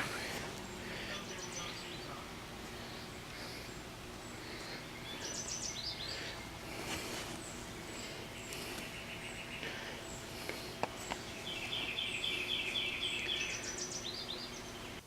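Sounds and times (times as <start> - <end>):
birds chirping: 0.0 - 15.0
bird trill: 1.1 - 6.8, 7.4 - 10.3, 11.0 - 15.0.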